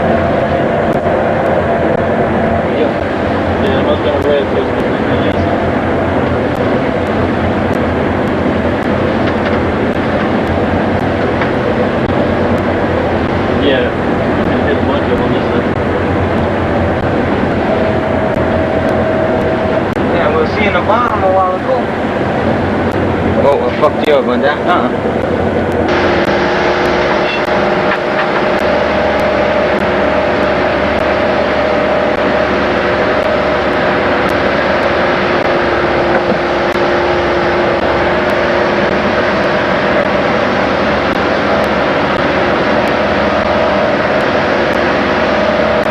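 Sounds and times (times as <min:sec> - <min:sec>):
boat engine running: 0:00.0 - 0:45.9
rushing noise: 0:00.0 - 0:45.9.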